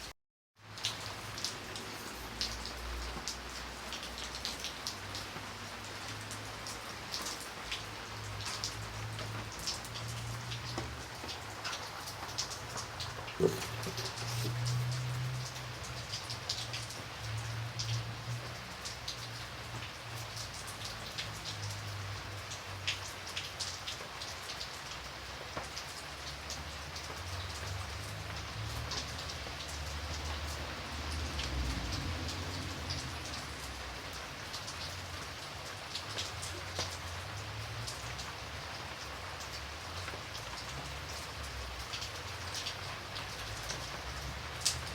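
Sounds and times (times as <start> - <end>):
rain hiss: 0.6 - 44.9.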